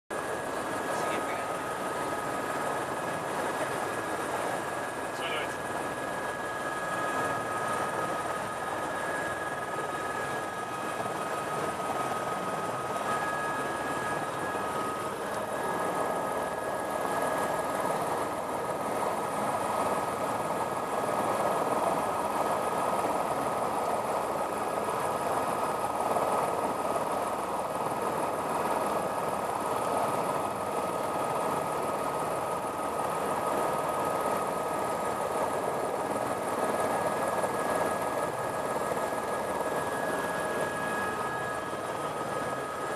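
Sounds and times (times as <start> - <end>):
helicopter engine and rotor: 0.1 - 42.9.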